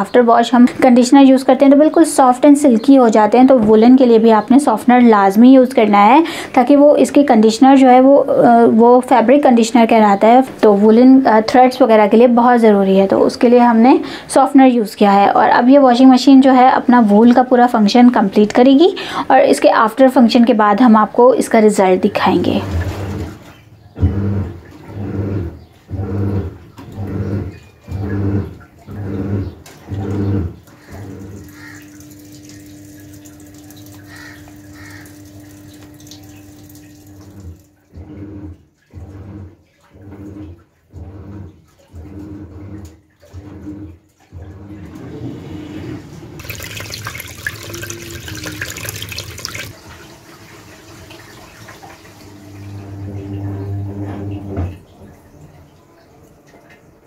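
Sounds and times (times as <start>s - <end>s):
washing drum spinning up: 0.0s - 57.0s
washing machine churning: 0.0s - 57.0s
washing machine motor hum: 0.0s - 57.0s
water gushing into tub: 4.7s - 57.0s.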